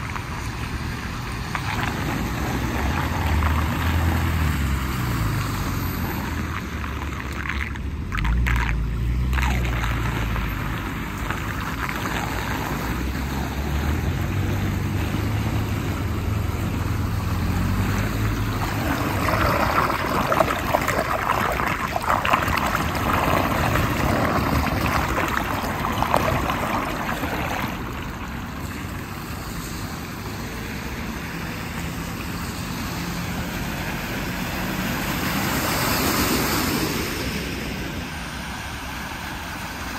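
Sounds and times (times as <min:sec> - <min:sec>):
water swirling down storm drain: 0:00.0 - 0:39.9.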